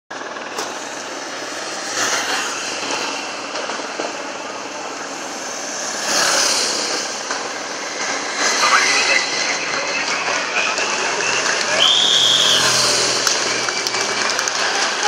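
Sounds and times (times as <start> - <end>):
motorcycle engines: 0.1 - 15.0.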